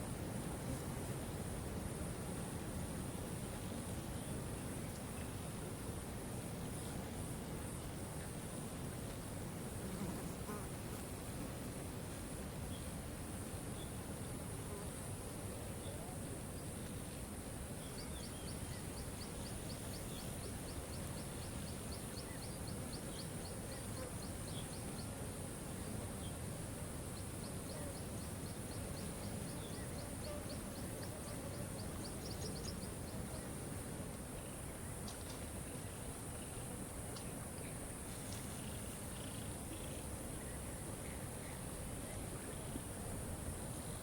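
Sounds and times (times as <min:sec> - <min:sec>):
steady high hiss: 0:00.0 - 0:44.0.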